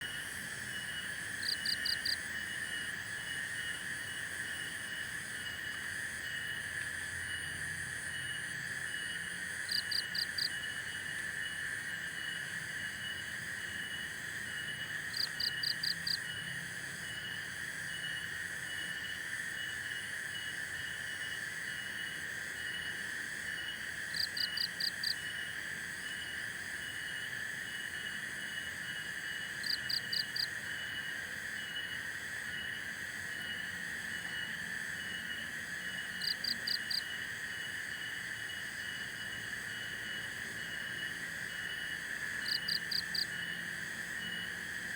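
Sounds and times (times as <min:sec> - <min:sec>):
insects buzzing drone: 0:00.0 - 0:44.9.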